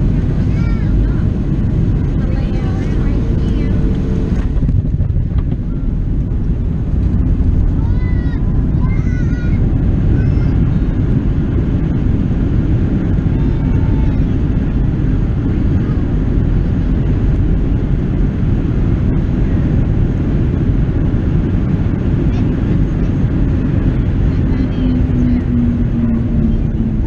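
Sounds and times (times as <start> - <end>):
jet engine rumble in cabin: 0.0 - 27.0.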